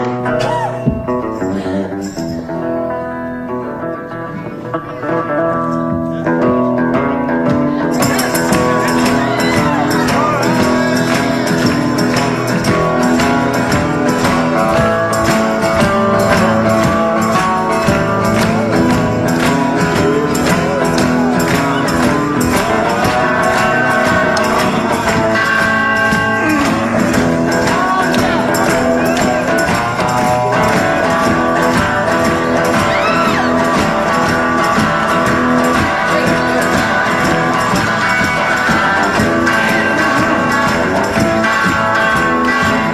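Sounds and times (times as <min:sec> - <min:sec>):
music with a steady beat: 0:00.0 - 0:42.9.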